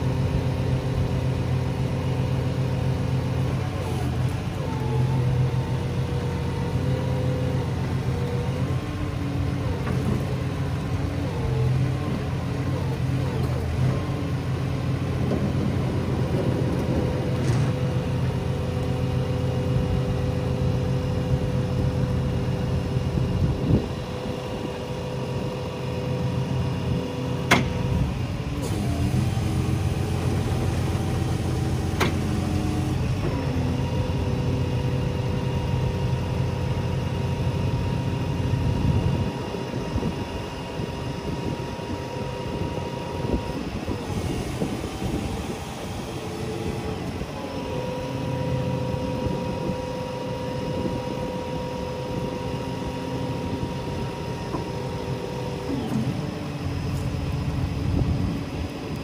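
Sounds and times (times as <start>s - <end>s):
hydraulic whine: 0.0s - 59.0s
truck engine running under load: 0.0s - 59.0s.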